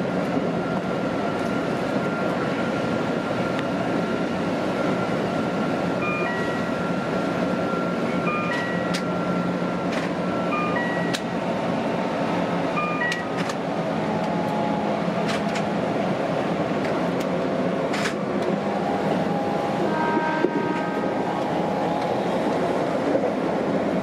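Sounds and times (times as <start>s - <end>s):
train rolling noise: 0.0s - 24.0s.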